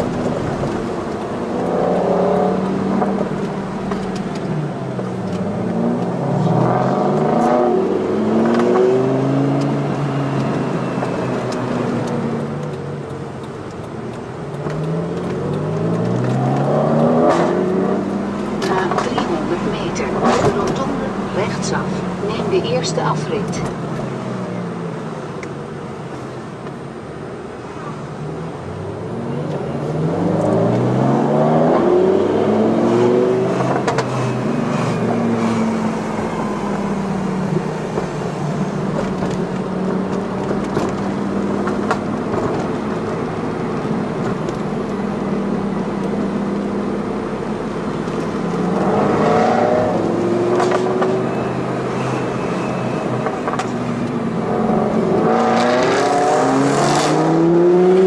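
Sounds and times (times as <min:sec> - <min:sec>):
car engines accelerating: 0:00.0 - 0:58.0.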